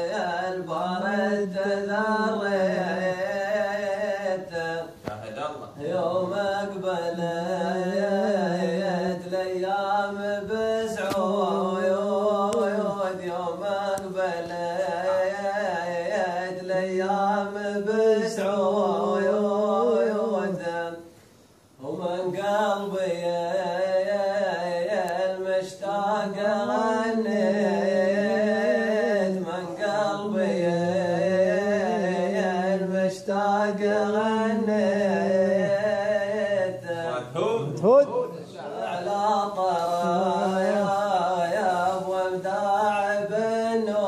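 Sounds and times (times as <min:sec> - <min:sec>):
man chanting unaccompanied: 0:00.0 - 0:21.1, 0:21.8 - 0:44.0.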